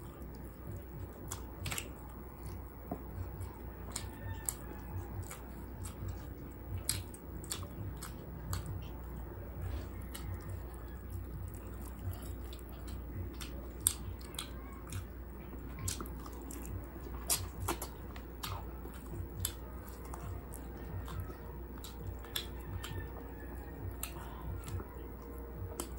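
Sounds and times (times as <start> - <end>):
chewing and mouth smacks: 0.0 - 25.9.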